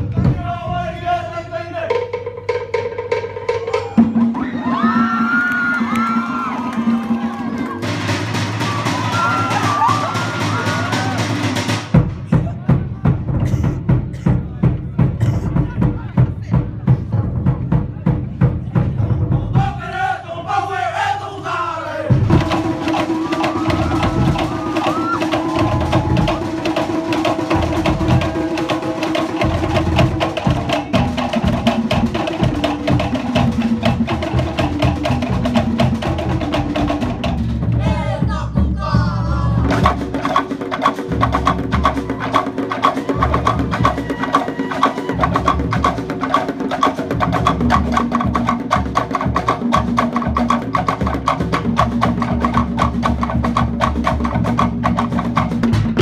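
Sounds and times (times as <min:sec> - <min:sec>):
deep skin drum beats: 0:00.0 - 0:20.2, 0:22.1 - 0:56.0
slit log drums beaten fast: 0:00.0 - 0:20.2, 0:22.0 - 0:56.0.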